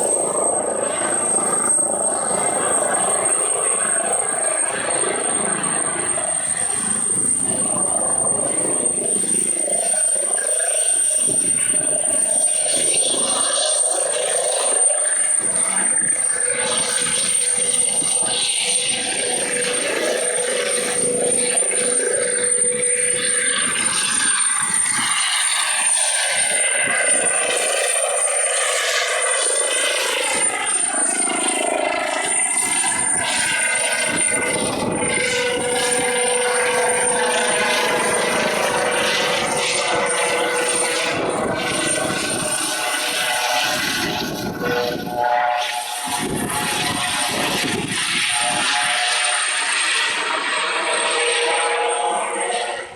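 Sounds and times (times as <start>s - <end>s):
helicopter turbine and rotor: 0.0s - 52.9s.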